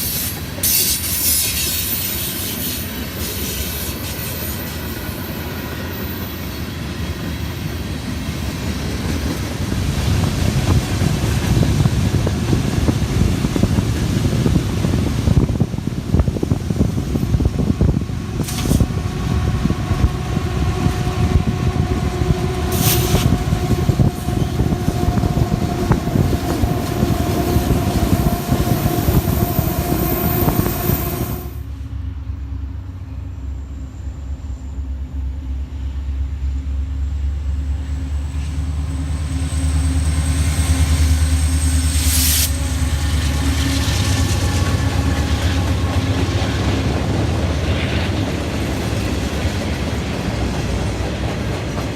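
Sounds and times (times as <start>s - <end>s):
approaching train deep rumble: 0.0s - 51.9s
train rumbling on rails: 0.0s - 51.9s.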